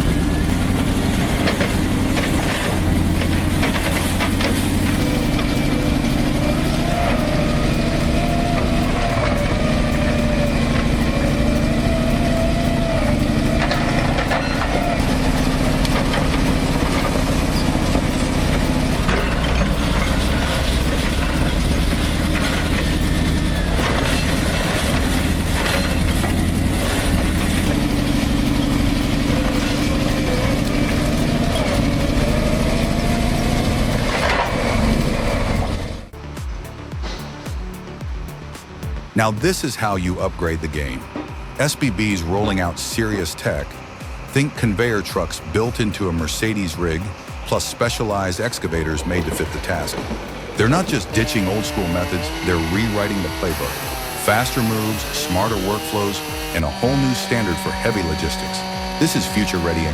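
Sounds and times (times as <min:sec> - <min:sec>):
large diesel engine running: 0:00.0 - 0:59.9.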